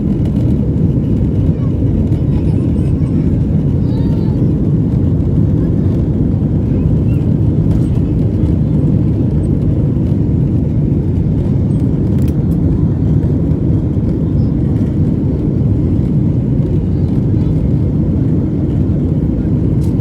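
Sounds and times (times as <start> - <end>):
airplane engine rumble in cabin: 0.0 - 20.0.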